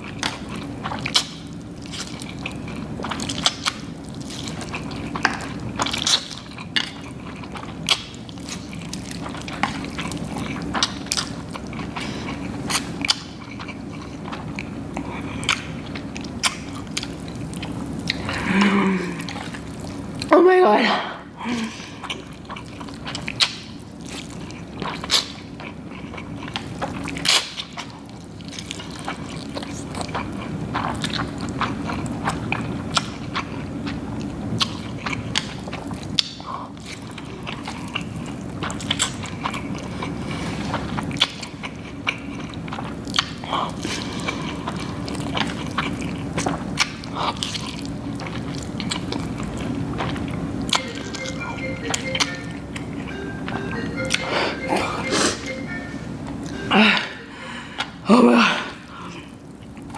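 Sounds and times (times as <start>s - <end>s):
person chewing and slurping noodles: 0.0s - 20.3s, 21.6s - 59.9s
steady low hum: 0.0s - 59.9s.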